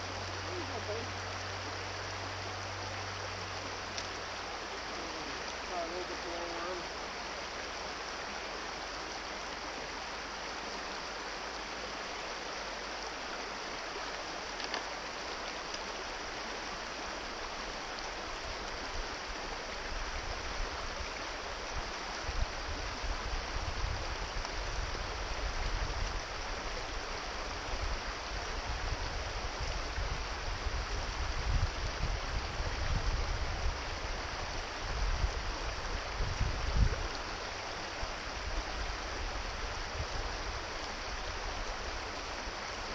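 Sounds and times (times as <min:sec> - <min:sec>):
brook rushing over stones: 0:08.4 - 0:42.9.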